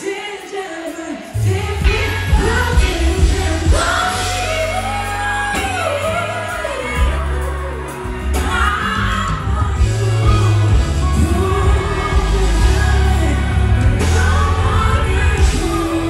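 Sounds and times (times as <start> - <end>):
keyboards: 0.0 - 16.0
woman singing into a microphone: 0.0 - 16.0
heavy bass line: 1.5 - 16.0
electric guitar: 1.8 - 16.0.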